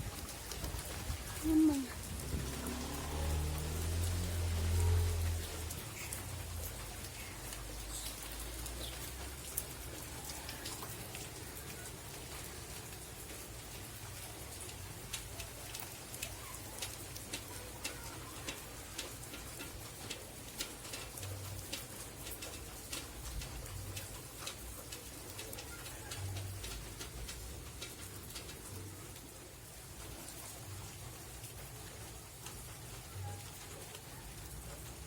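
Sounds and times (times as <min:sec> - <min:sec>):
rain falling: 0:00.0 - 0:35.0
raindrops tapping on surface: 0:00.0 - 0:35.0.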